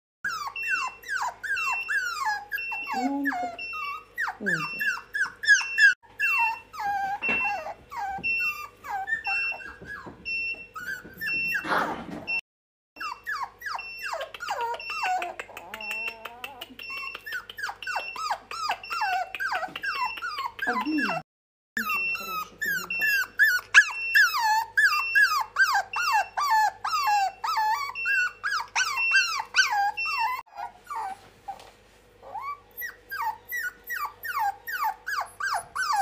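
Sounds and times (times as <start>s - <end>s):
puppies whimpering and yipping: 0.3s - 12.4s, 13.0s - 21.2s, 21.8s - 36.0s.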